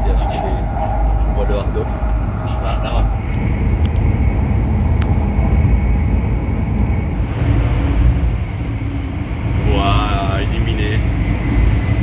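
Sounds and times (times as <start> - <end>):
faint high whine: 0.0 - 12.0
train low rumble inside carriage: 0.0 - 12.0.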